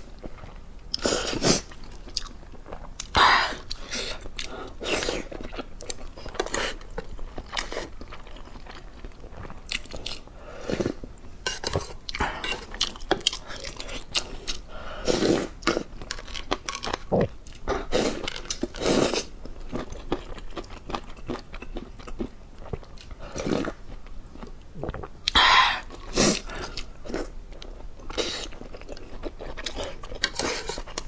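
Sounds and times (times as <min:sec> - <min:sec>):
person chewing crunchy food: 0:00.2 - 0:31.0.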